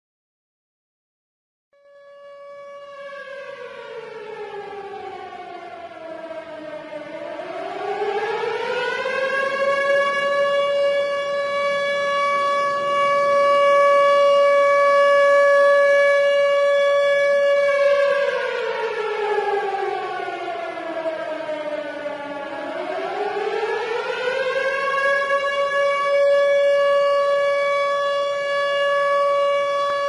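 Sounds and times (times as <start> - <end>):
siren wailing: 1.8 - 30.0.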